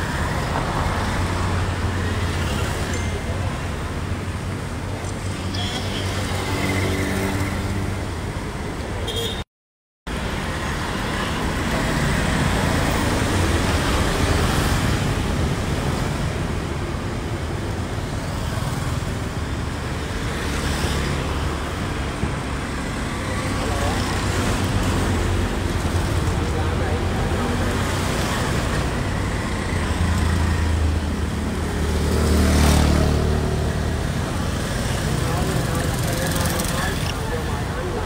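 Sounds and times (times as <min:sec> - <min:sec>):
road traffic rumble: 0:00.0 - 0:09.4, 0:10.1 - 0:38.0.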